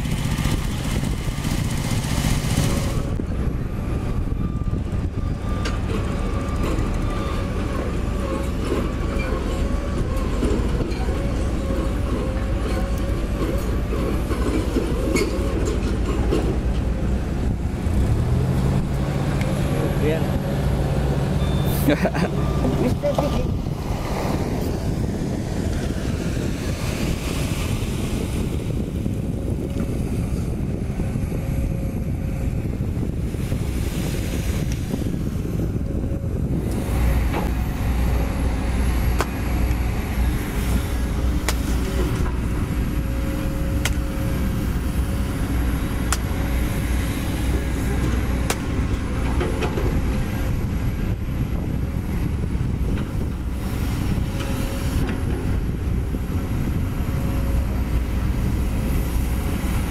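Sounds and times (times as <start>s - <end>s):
diesel machinery running: 0.0s - 59.9s
excavator engine rumble: 0.0s - 59.9s.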